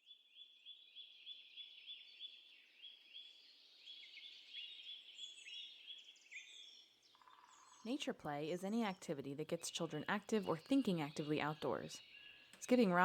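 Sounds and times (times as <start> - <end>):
birds singing higher notes: 0.0 - 13.0
faint bird chirps: 0.0 - 13.0.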